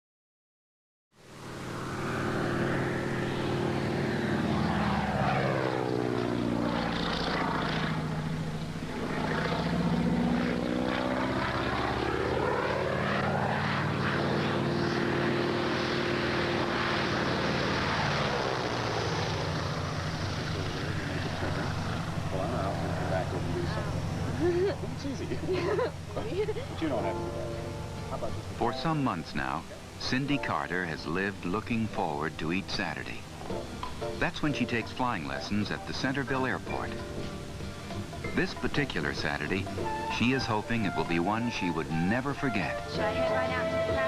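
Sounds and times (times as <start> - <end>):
propeller airplane flying past: 1.2 - 44.0.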